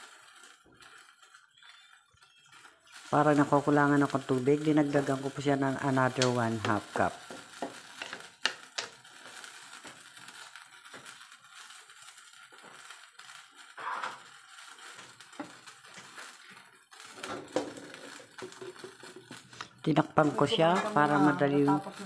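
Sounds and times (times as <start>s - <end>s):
broth crackling and popping: 0.0s - 22.0s.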